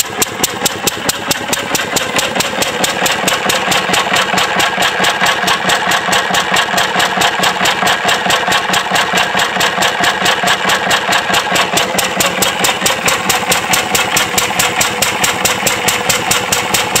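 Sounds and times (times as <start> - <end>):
stationary engine running: 0.0 - 17.0.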